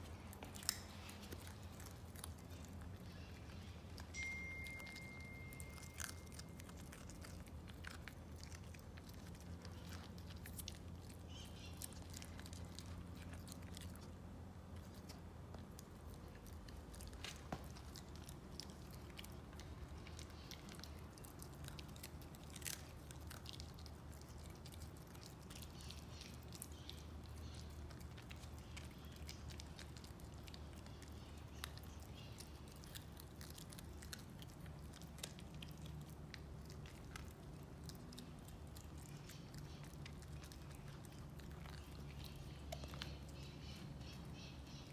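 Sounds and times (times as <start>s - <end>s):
low steady hum: 0.0s - 44.9s
puppy chewing crunches: 0.0s - 44.9s.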